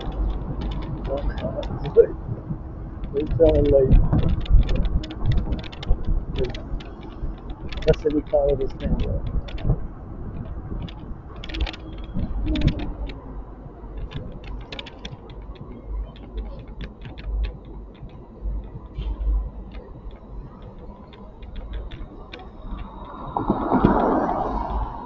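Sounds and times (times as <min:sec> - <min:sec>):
bike clicks and rattles: 0:00.0 - 0:25.0
wind and road rumble: 0:00.0 - 0:25.0.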